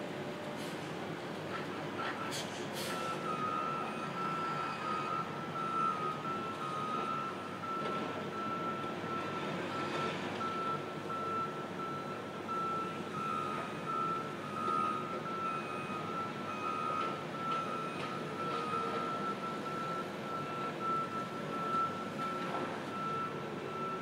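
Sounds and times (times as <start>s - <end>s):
diesel engines rumbling: 0.1s - 24.0s.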